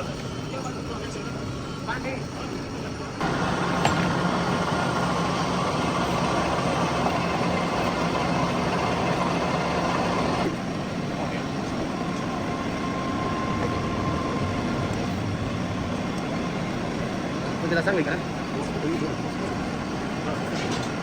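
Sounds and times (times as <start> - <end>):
metal lathe humming: 3.1 - 21.0.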